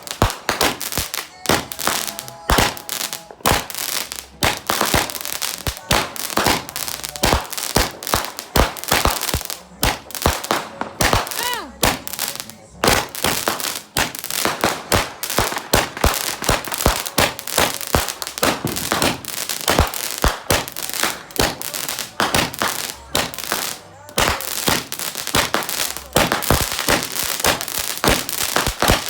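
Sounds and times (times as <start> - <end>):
fireworks banging and crackling: 0.0 - 29.0.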